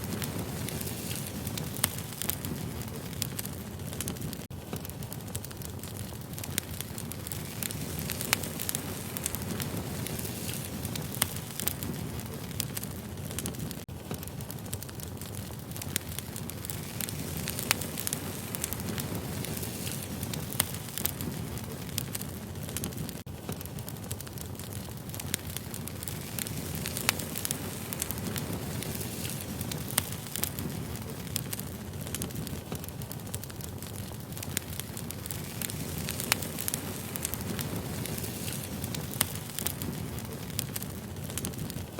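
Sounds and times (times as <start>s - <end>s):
logs crackling and popping: 0.0s - 41.9s
low rumble of flame: 0.0s - 41.9s.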